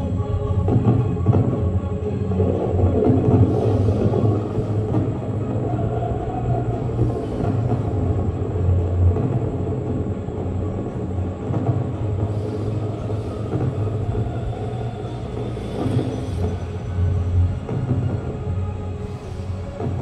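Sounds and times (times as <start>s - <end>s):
fireworks rumbling: 2.3s - 18.5s.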